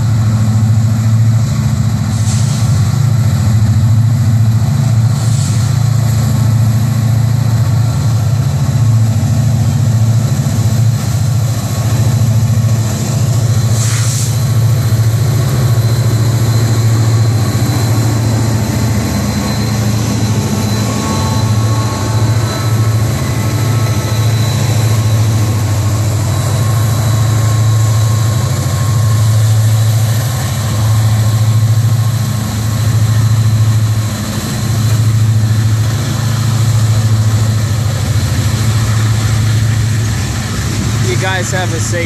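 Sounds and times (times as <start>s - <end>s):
diesel locomotive under throttle: 0.0s - 42.0s.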